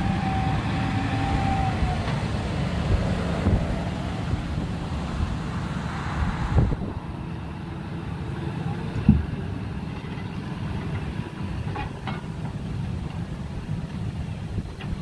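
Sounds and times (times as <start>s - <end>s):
wind buffeting microphone: 0.0s - 11.7s, 12.6s - 15.0s
tractor diesel engine running: 0.0s - 15.0s.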